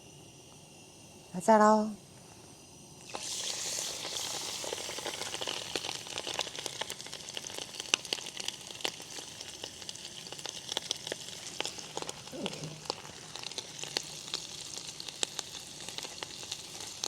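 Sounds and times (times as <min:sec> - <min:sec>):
shrimp deep-frying in hot oil: 0:02.7 - 0:17.0
crackling pops of frying: 0:03.0 - 0:17.0.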